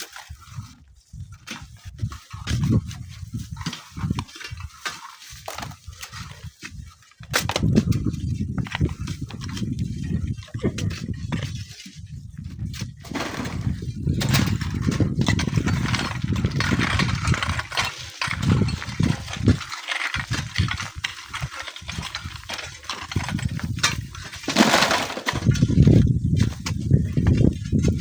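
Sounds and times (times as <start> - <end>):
wind buffeting microphone: 0.3 - 4.8, 5.6 - 28.0.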